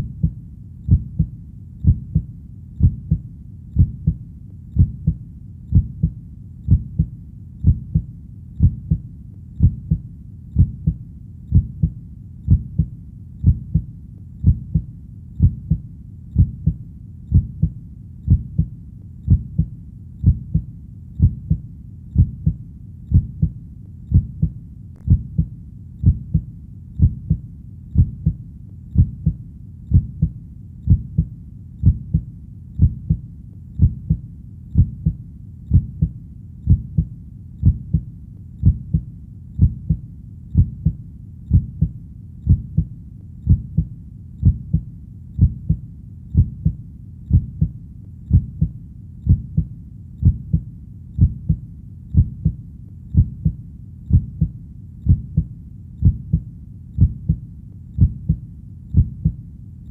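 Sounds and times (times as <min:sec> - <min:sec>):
heartbeat thumping: 0:00.0 - 0:59.9.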